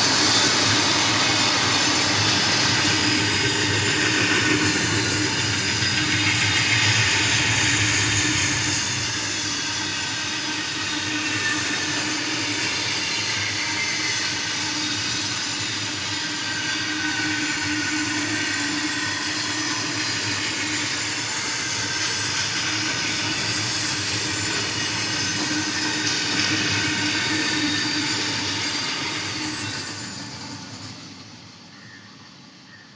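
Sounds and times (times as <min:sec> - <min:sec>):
train running on track: 0:00.0 - 0:32.9.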